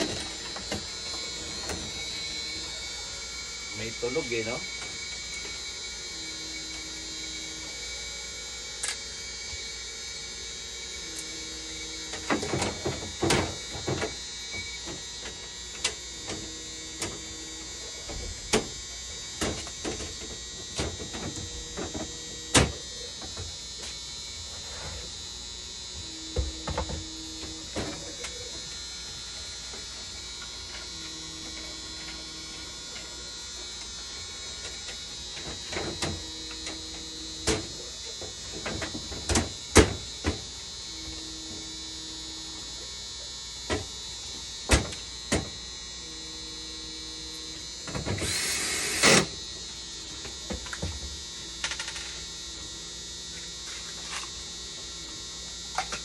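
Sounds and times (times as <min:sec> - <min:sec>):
machine high whine: 0:00.0 - 0:56.0.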